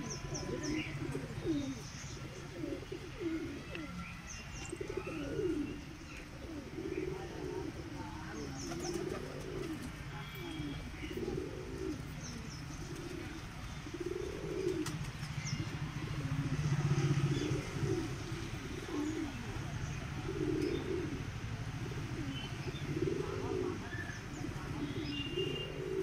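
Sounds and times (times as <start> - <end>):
doves cooing: 0.0 - 26.0.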